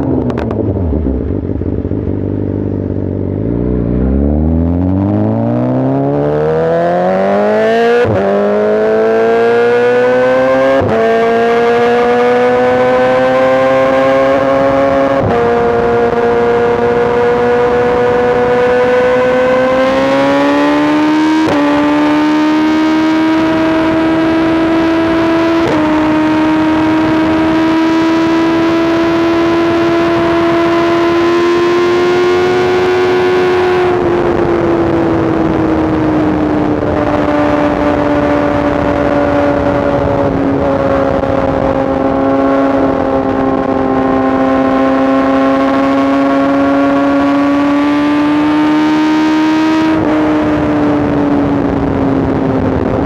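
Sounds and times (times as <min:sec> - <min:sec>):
motorcycle engine running hard: 0:00.0 - 0:53.0.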